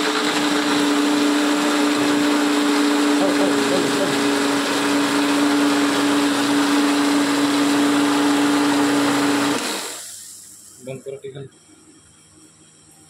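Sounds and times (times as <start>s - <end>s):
mixer grinder motor whine: 0.0s - 11.0s.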